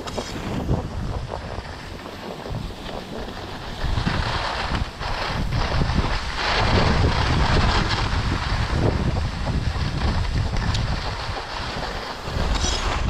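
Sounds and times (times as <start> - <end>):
skis scraping over snow: 0.0 - 13.0
wind buffeting microphone: 0.0 - 13.0.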